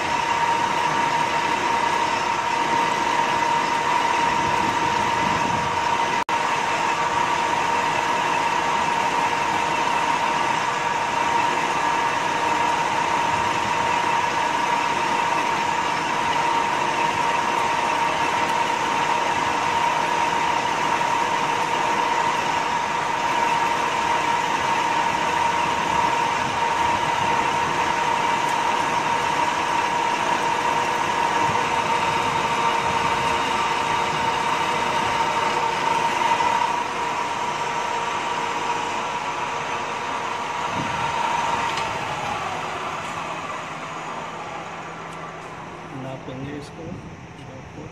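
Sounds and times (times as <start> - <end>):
lathe cutting metal with whine: 0.0 - 47.9.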